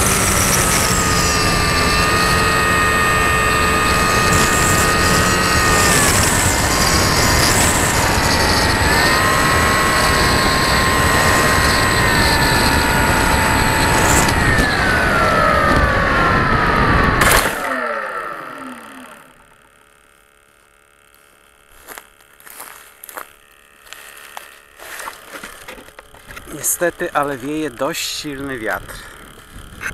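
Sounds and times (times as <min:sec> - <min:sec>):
model plane motor whining: 0:00.0 - 0:29.9.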